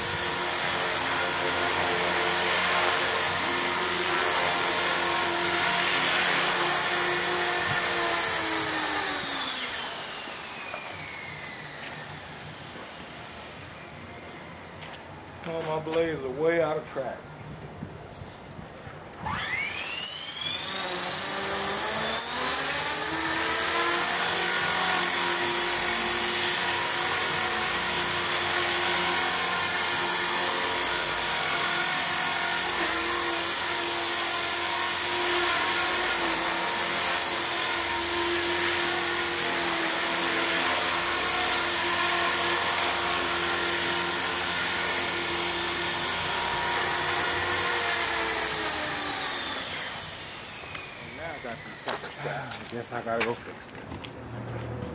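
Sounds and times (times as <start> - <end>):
rc helicopter motor whine: 0.0 - 15.4, 19.1 - 53.0.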